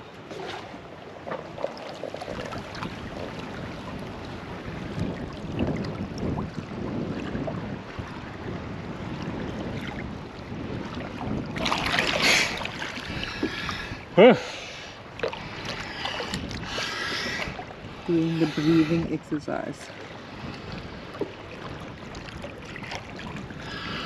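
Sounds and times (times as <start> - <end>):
water lapping against hull: 0.0 - 24.0
wind on microphone: 2.2 - 24.0.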